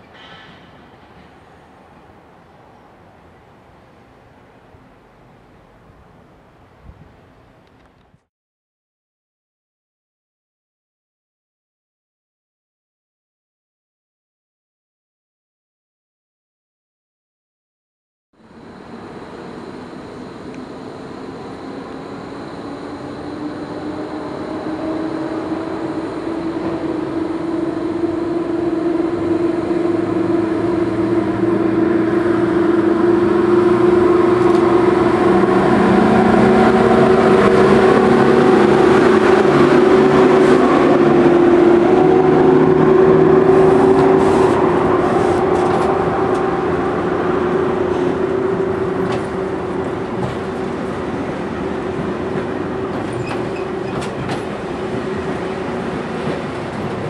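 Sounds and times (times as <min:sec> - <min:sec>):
electric locomotive hum: 0:00.0 - 0:08.2, 0:18.4 - 0:57.0.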